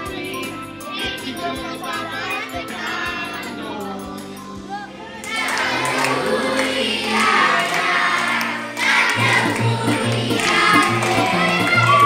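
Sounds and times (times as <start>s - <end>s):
children singing: 0.0s - 4.2s, 5.2s - 12.0s
music: 0.0s - 12.0s.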